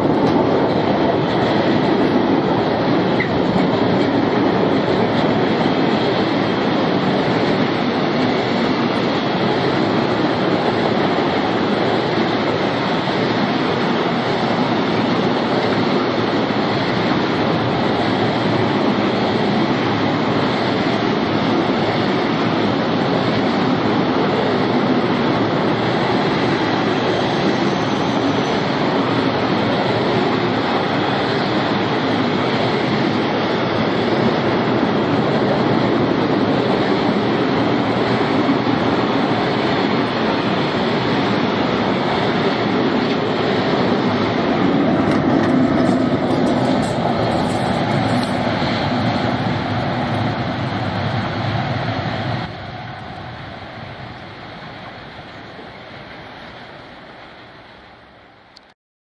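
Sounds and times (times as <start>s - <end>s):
freight train rumbling past: 0.0s - 58.6s
electric locomotive passing: 0.0s - 58.7s.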